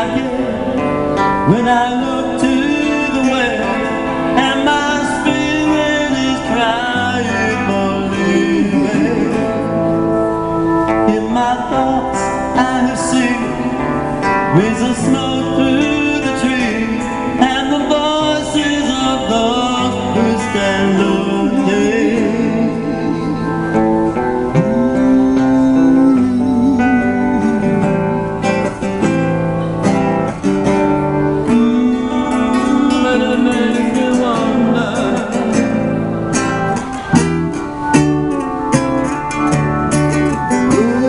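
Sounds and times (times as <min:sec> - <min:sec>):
man singing with vibrato: 0:00.0 - 0:37.2, 0:39.9 - 0:41.0
electric guitar chords: 0:00.0 - 0:41.0
low bass line: 0:00.0 - 0:41.0.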